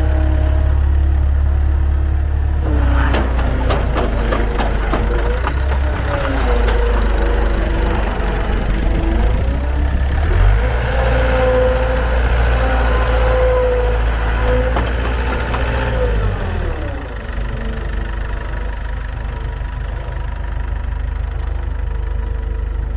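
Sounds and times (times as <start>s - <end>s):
diesel engine revving and idling: 0.0s - 22.9s.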